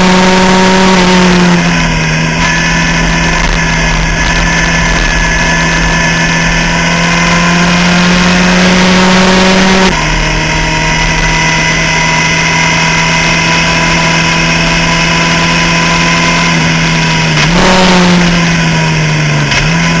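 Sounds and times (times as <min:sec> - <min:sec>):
race car engine: 0:00.0 - 0:20.0
wind and road noise: 0:00.0 - 0:20.0.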